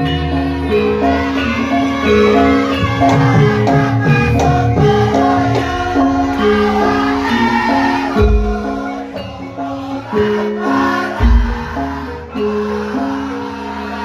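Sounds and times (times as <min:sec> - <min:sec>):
gamelan ensemble playing: 0:00.0 - 0:14.0.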